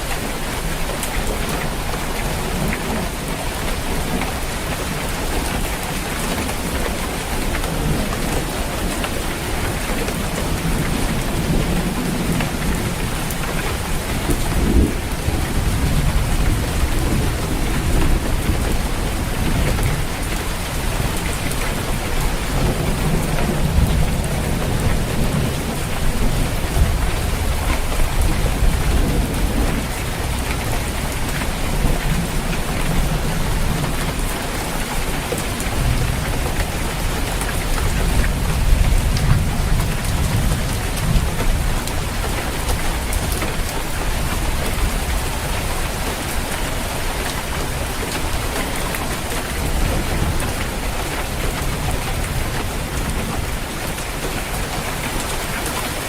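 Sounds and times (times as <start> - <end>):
heavy rain on a roof: 0.0 - 56.0
thunder rumbling: 1.6 - 55.5.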